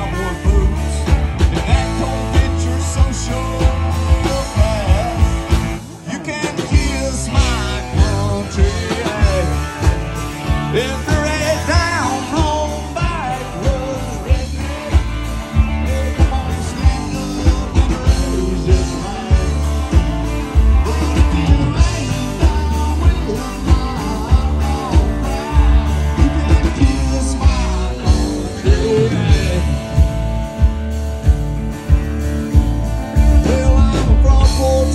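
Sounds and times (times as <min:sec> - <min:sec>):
drum kit beat: 0:00.0 - 0:34.9
electric guitars: 0:00.0 - 0:34.9.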